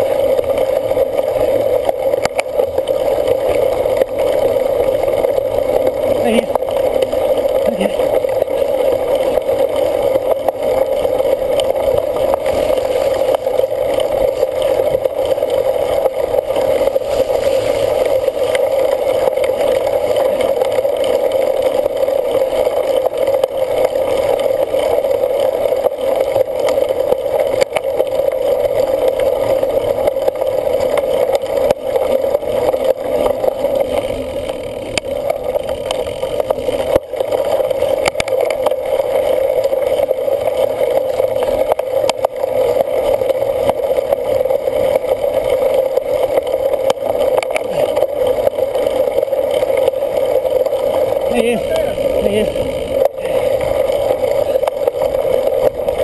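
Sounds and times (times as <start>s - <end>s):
bicycle tyre noise: 0.0s - 56.0s.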